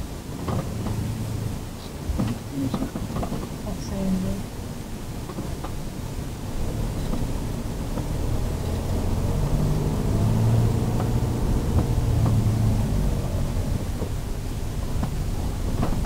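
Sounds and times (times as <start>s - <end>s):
low road rumble: 0.0s - 16.0s
van engine running: 0.0s - 16.0s.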